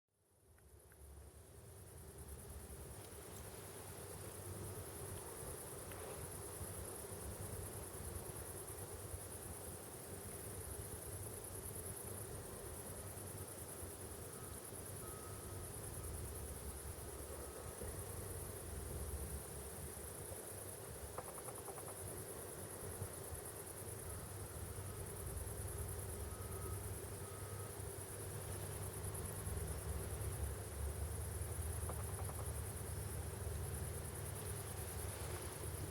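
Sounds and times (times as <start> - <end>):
insects chirring: 0.3 - 35.9.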